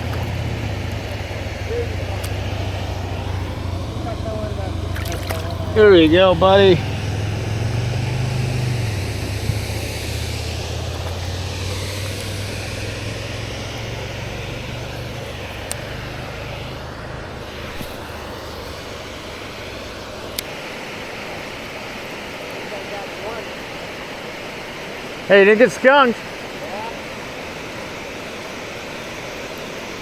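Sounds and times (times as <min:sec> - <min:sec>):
propeller airplane passing overhead: 0:00.0 - 0:30.0.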